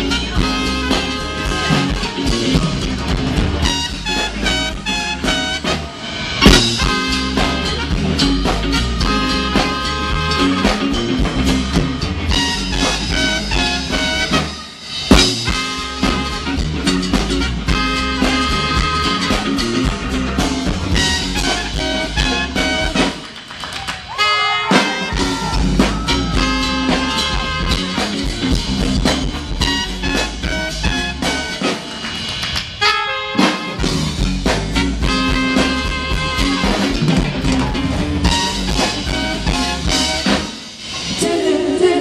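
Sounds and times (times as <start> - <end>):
loud accented band hit: 0.0 - 41.3
live jazz band playing: 0.0 - 42.0.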